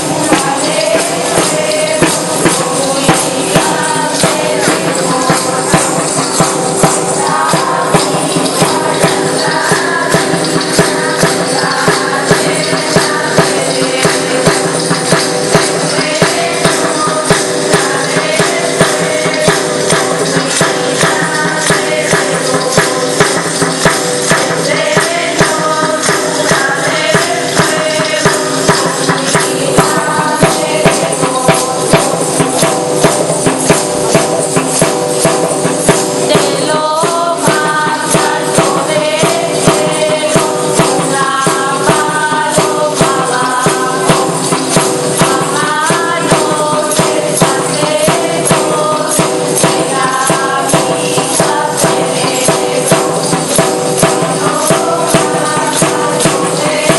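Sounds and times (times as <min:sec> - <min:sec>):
tambourine beat: 0:00.0 - 0:56.9.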